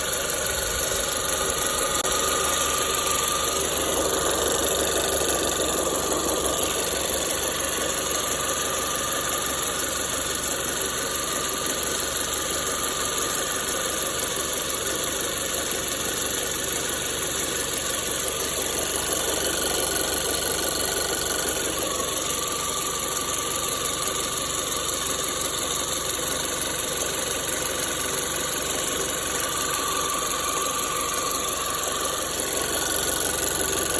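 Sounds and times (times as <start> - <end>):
car engine running with metallic rattle: 0.0 - 33.9.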